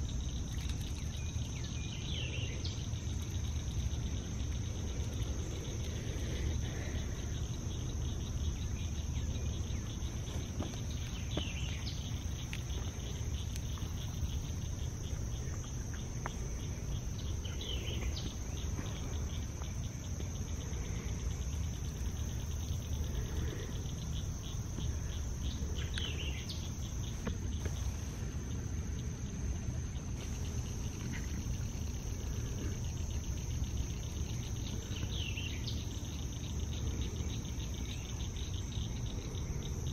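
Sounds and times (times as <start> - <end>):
insect chorus trilling: 0.0 - 39.9
steady low rumble: 0.0 - 39.9.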